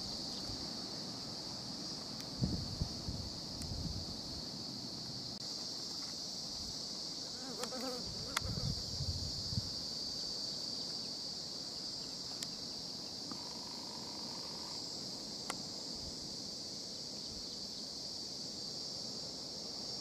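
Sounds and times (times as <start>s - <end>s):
insect chorus buzzing: 0.0s - 20.0s.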